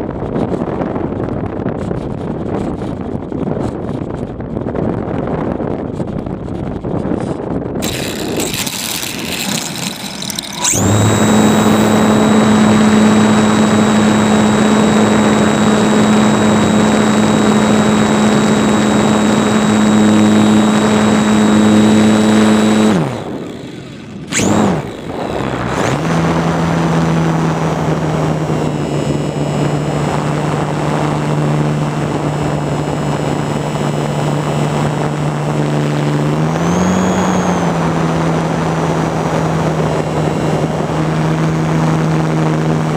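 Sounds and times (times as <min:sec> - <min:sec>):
model plane motor and propeller: 0:00.0 - 0:42.9
wind rushing over camera: 0:00.0 - 0:42.9.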